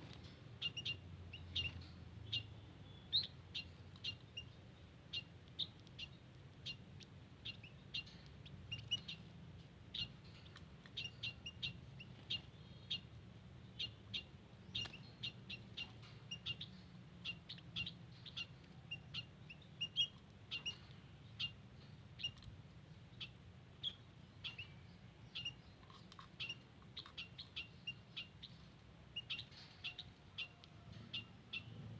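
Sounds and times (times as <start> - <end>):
birds chirping: 0.0 - 31.9
faint low hum: 0.0 - 31.9.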